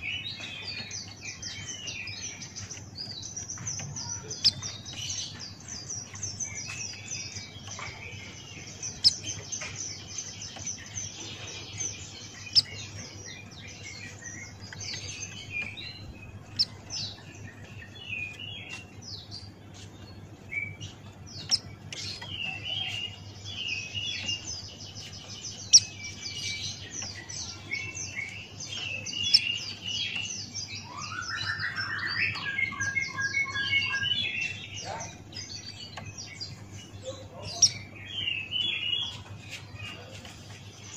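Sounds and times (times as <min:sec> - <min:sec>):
bird twittering chirps: 0:00.0 - 0:39.2.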